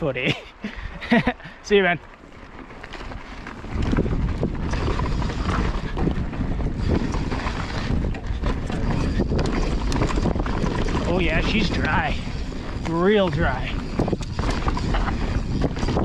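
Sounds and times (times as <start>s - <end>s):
bike rattling over dirt and roots: 0.3s - 16.0s
wind buffeting microphone: 2.4s - 16.0s.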